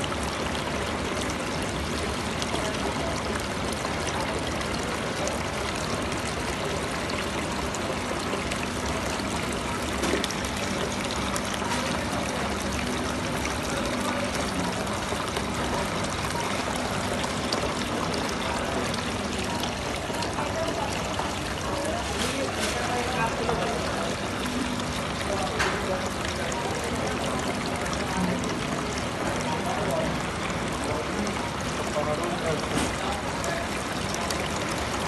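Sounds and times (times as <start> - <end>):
fountain water splashing: 0.0 - 35.0.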